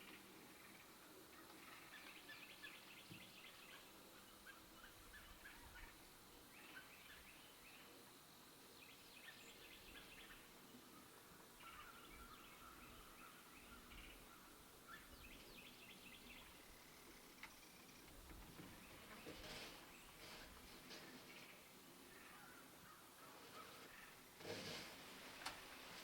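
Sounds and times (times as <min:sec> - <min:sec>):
distant bird calls: 0:00.0 - 0:08.0, 0:08.8 - 0:26.0.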